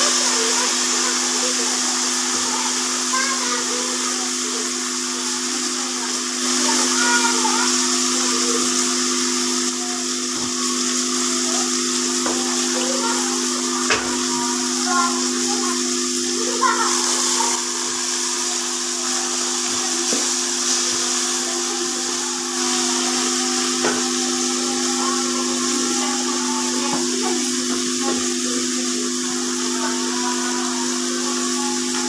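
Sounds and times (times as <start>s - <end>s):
onions frying in oil: 0.0s - 32.0s
steady hum: 1.6s - 32.0s.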